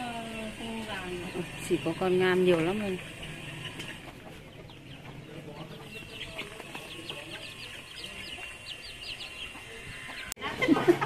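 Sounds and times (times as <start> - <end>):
poultry peeping: 0.0 - 10.4
hens clucking: 0.0 - 11.0.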